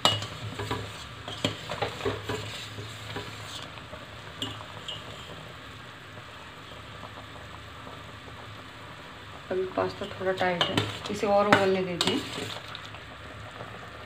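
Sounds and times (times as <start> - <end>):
boiling water bubbling: 0.0 - 14.0.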